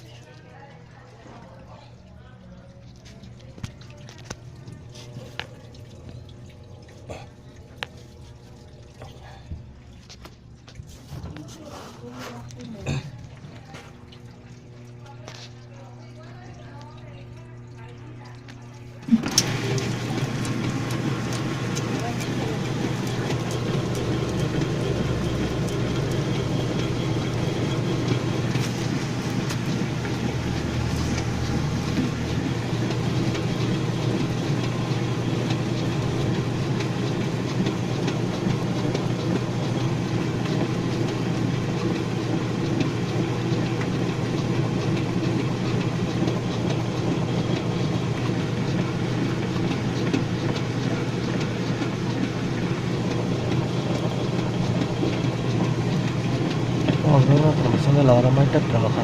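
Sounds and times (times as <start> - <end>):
transmission humming: 2.0 - 59.0.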